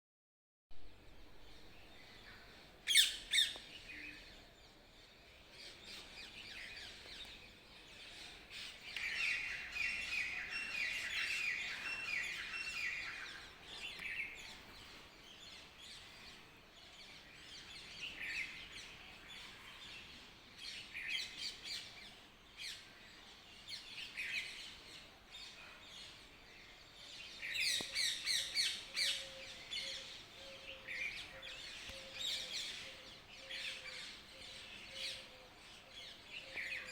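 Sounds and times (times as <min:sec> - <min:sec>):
birds chirping and calling: 0:01.4 - 0:04.4, 0:05.0 - 0:36.9.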